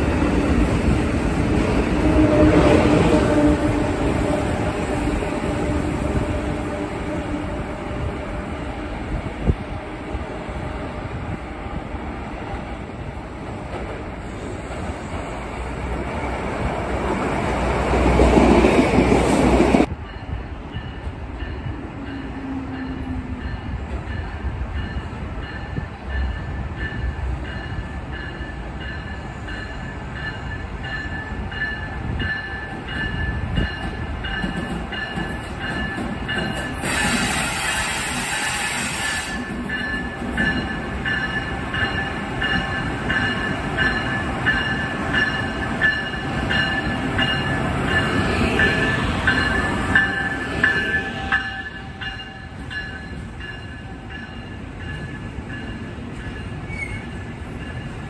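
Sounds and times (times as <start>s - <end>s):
electric locomotive whine: 0.0s - 58.0s
train wheel and track rush: 0.0s - 58.0s.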